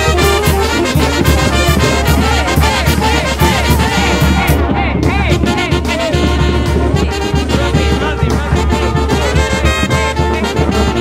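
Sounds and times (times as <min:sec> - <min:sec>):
low bass line: 0:00.0 - 0:11.0
trumpets and trombones playing: 0:00.0 - 0:11.0.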